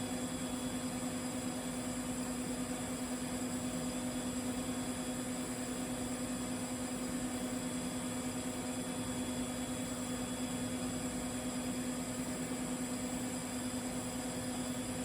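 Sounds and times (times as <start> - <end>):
welding arc humming and hissing: 0.0 - 15.0.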